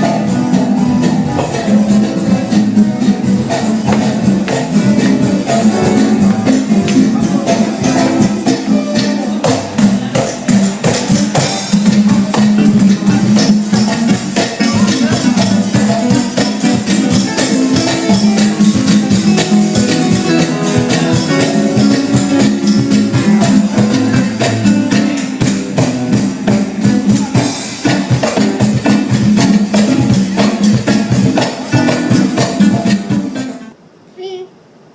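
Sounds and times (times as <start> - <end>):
guitar: 0.0 - 33.8
live band playing instrumental: 0.0 - 33.8
steady bass line: 0.0 - 33.8.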